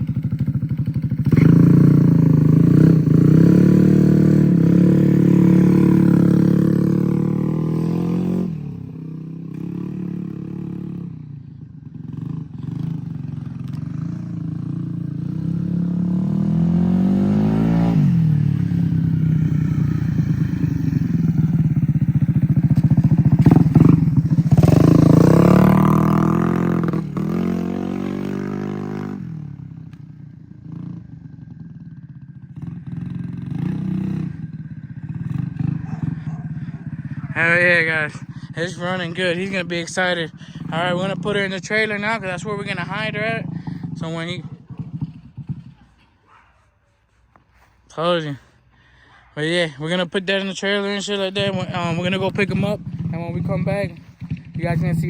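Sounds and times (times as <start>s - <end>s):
moped engine revving: 0.0s - 46.5s, 47.5s - 55.0s.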